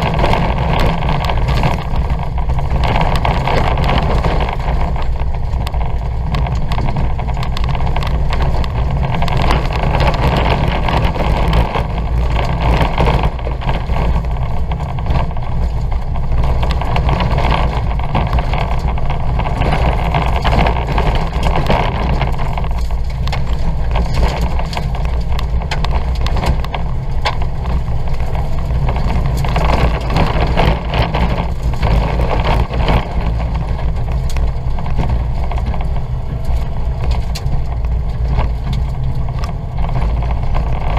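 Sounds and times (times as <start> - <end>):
car engine running hard: 0.0 - 40.9
car knocks and rattles: 0.0 - 40.9.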